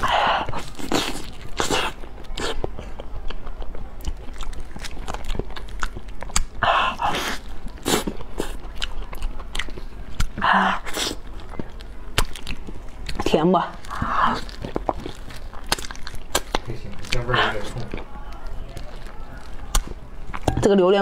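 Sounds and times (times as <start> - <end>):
wet chewing and lip-smacking: 0.0 - 20.6.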